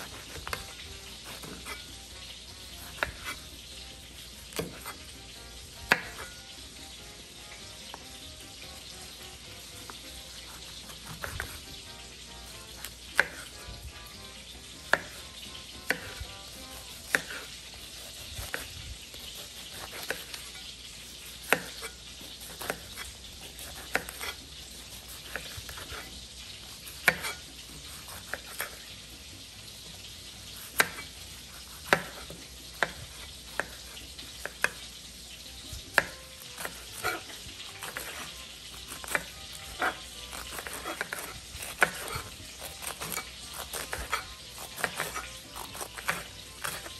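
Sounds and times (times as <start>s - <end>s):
food sizzling in a frying pan: 0.0s - 46.9s.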